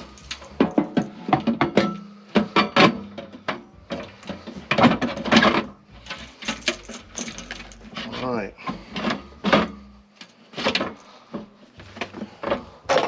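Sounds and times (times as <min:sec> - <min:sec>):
metal clunks and scrapes: 0:00.0 - 0:13.0.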